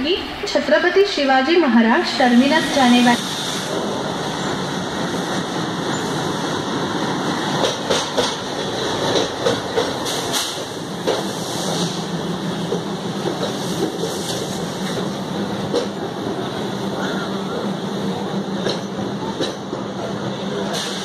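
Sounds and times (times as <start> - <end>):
train coaches rumbling past: 0.0 - 21.0.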